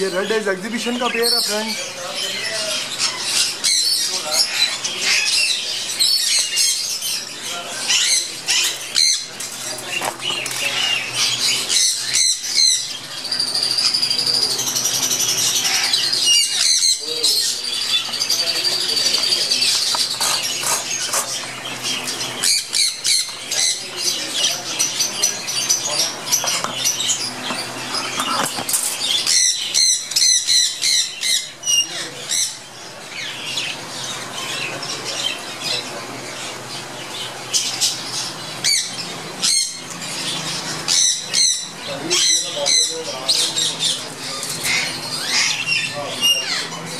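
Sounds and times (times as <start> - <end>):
budgerigars chirping and warbling: 0.0 - 46.9.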